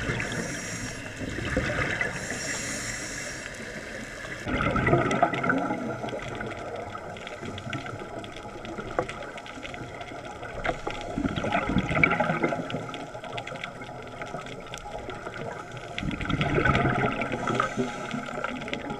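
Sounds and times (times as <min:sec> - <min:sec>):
underwater exhaust bubbles rushing: 0:00.0 - 0:03.1, 0:03.8 - 0:18.9
faint crackling underwater: 0:00.0 - 0:18.9.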